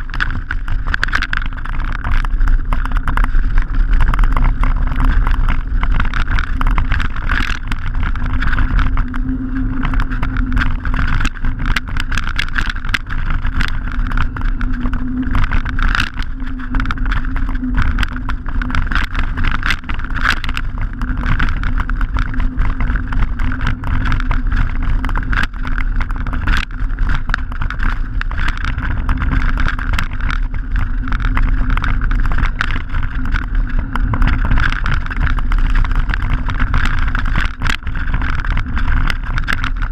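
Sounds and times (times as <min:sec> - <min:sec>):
bike clicks and rattles: 0:00.0 - 0:39.9
tyres rumbling on gravel: 0:00.0 - 0:39.9
wind buffeting microphone: 0:00.0 - 0:39.9.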